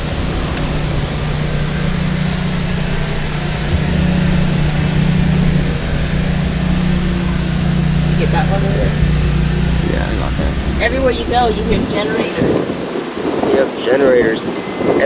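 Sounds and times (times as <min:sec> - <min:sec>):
low engine drone: 0:00.0 - 0:13.5.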